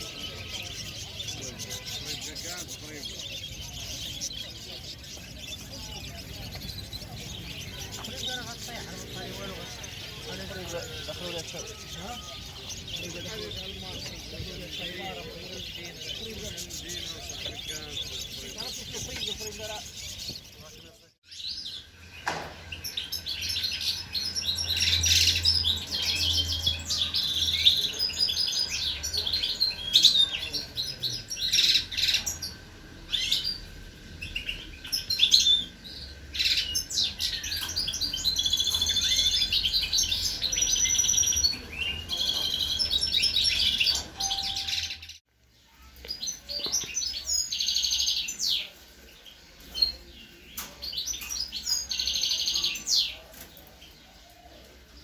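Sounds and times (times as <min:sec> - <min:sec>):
caged songbirds chirping: 0:00.0 - 0:55.0.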